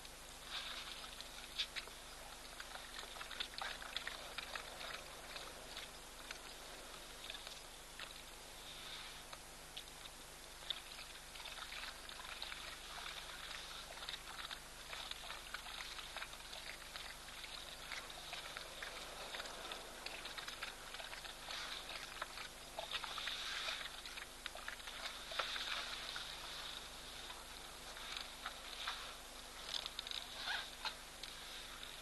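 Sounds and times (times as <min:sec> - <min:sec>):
hyenas lapping water: 0:00.3 - 0:32.0.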